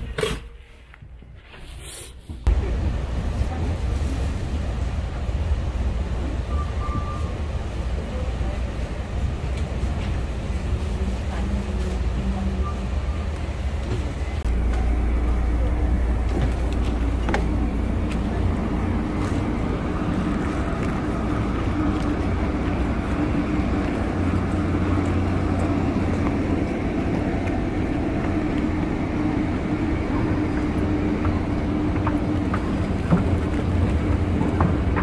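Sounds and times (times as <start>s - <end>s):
train rumble and hum: 2.2s - 35.0s.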